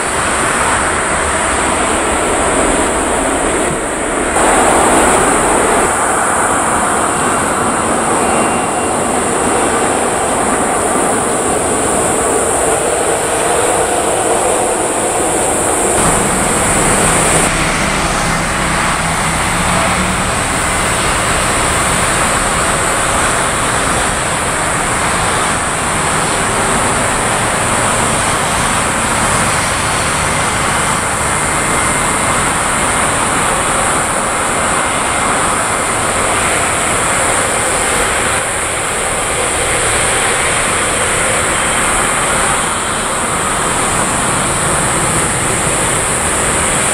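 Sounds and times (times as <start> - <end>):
jet engines at taxi power: 0.0 - 46.9.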